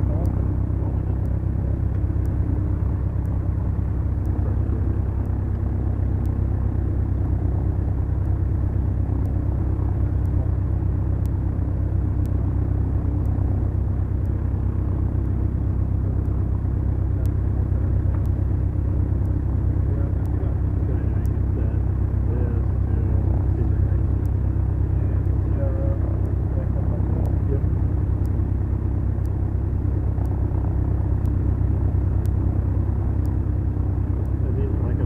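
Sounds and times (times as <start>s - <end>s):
twin piston engines droning: 0.0s - 35.0s.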